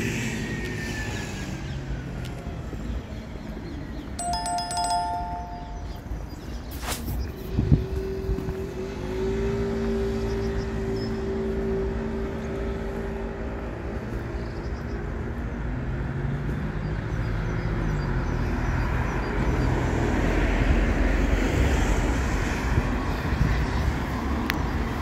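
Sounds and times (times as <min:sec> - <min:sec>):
vehicles driving past: 0:00.0 - 0:25.0.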